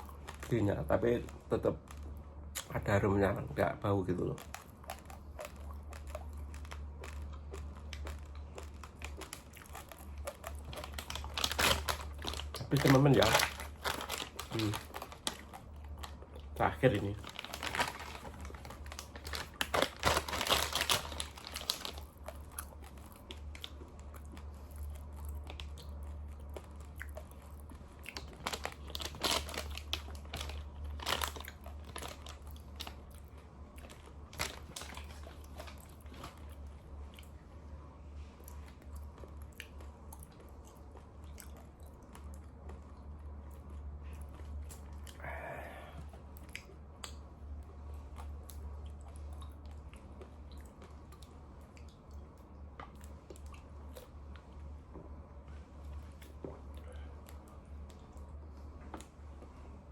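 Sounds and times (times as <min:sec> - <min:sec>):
crunching raw rice: 0:00.0 - 0:59.9
steady low hum: 0:00.0 - 0:59.9.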